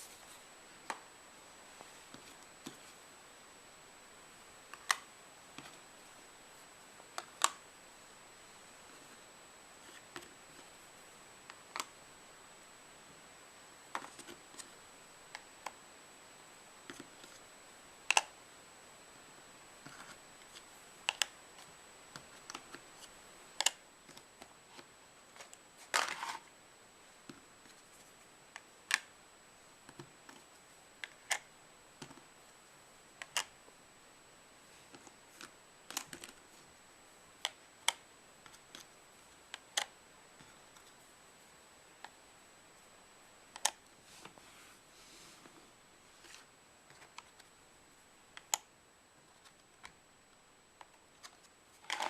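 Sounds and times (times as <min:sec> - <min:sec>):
faint high whine: 0:00.0 - 0:52.0.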